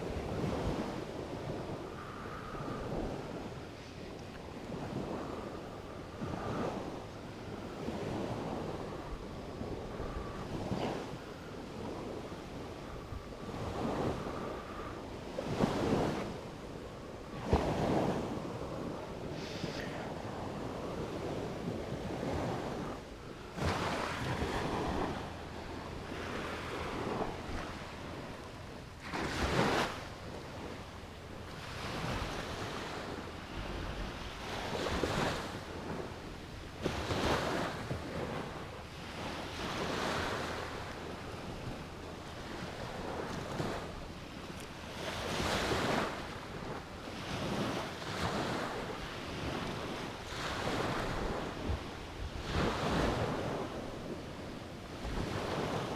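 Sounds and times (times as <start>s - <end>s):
sea waves washing onto beach: 0.0s - 55.9s
wind buffeting microphone: 0.0s - 55.9s.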